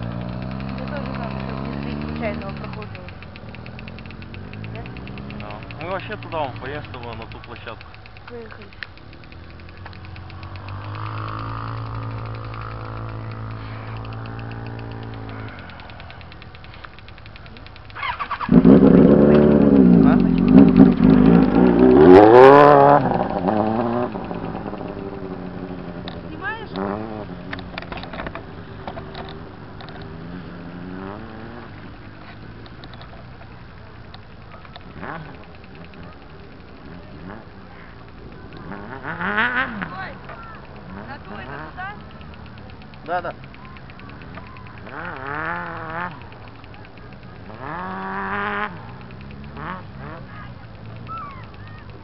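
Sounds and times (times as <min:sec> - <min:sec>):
motorcycle engine running: 0:00.0 - 0:52.0
sharp clicks and rattles: 0:00.0 - 0:52.0.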